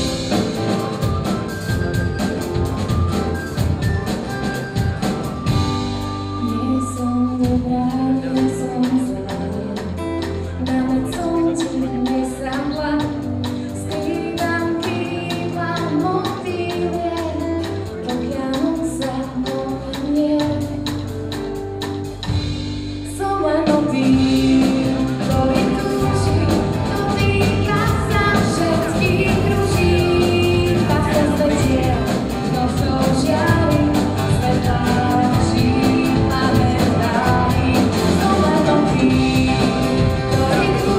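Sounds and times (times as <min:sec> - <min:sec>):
live band with drums: 0:00.0 - 0:40.9
woman singing: 0:05.5 - 0:21.1, 0:23.0 - 0:40.9.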